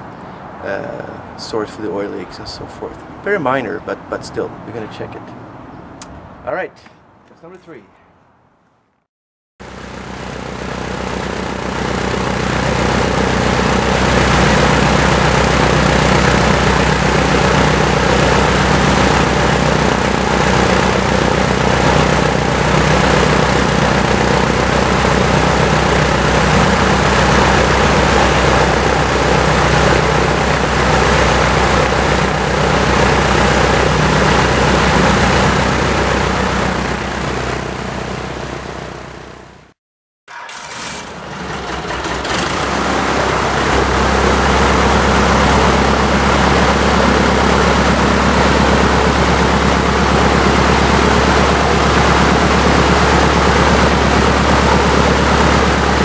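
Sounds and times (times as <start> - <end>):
aircraft engine running: 9.6 - 39.7, 40.3 - 56.0.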